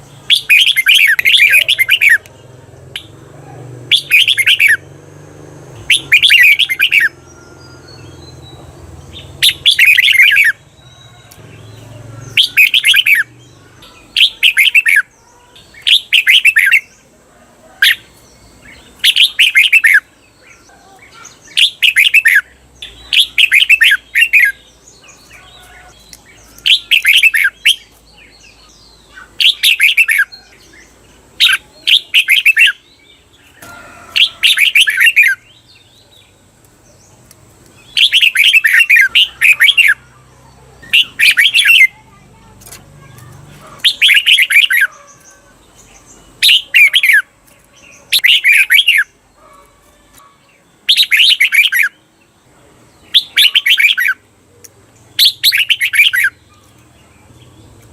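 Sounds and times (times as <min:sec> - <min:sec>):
bird warbling song: 0:00.0 - 0:57.9.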